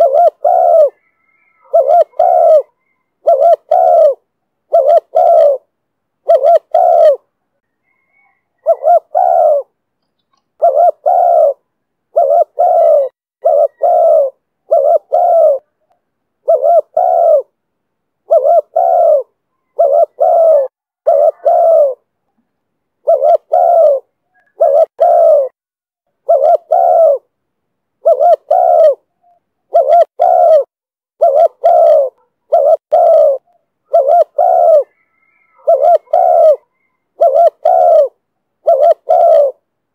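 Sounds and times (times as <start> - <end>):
dove cooing: 0.0 - 9.8, 10.6 - 17.6, 18.2 - 22.1, 23.0 - 25.6, 26.2 - 27.3, 28.0 - 39.7.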